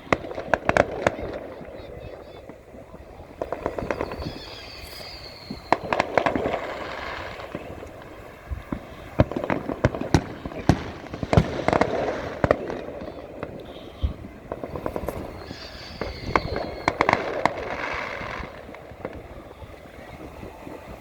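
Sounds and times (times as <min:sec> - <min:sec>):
firework whistle: 0:00.0 - 0:21.0
fireworks bangs and crackles: 0:00.0 - 0:21.0.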